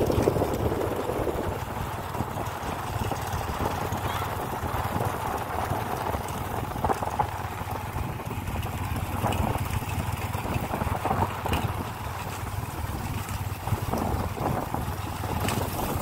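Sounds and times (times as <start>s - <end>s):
motorbike engine running: 0.0s - 16.0s
wind rushing over microphone: 0.0s - 16.0s.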